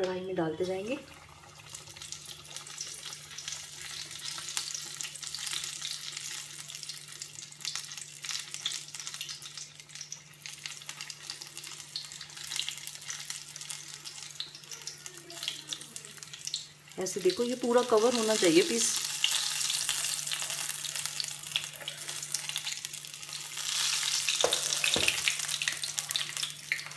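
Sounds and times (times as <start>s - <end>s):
deep-frying in hot oil: 0.1s - 26.9s.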